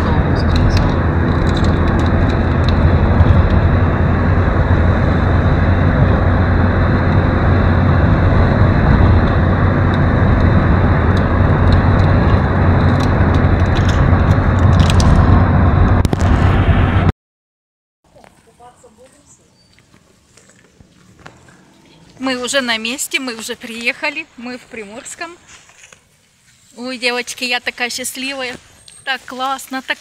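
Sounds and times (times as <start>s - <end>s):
car engine low rumble: 0.0s - 17.1s, 18.2s - 26.6s.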